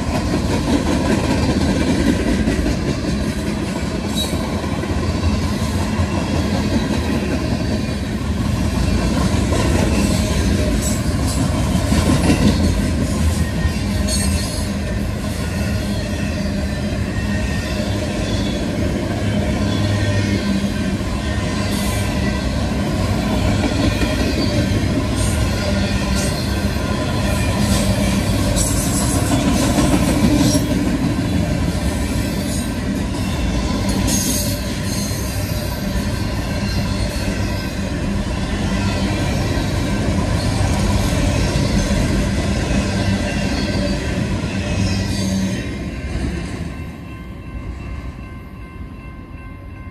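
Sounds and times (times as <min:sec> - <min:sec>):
train wheels rumbling and clattering: 0:00.0 - 0:49.4.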